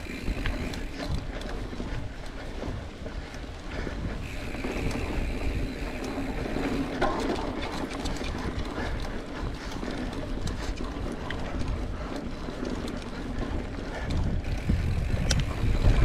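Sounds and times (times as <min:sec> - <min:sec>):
bike clicks and rattles: 0:00.0 - 0:16.0
bike tyre and drivetrain noise: 0:00.0 - 0:16.0
wind rumble on microphone: 0:00.0 - 0:16.0.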